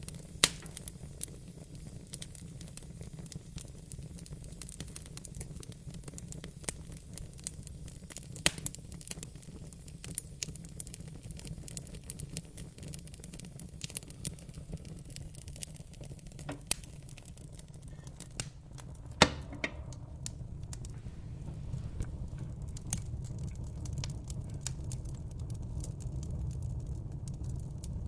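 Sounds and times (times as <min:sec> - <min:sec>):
low rush of flames: 0:00.0 - 0:28.0
wood fire crackling and popping: 0:00.0 - 0:28.0.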